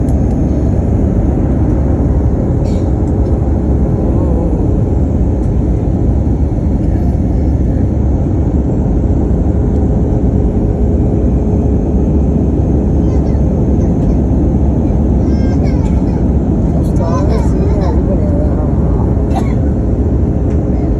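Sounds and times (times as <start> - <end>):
airliner cabin rumble: 0.0 - 20.9.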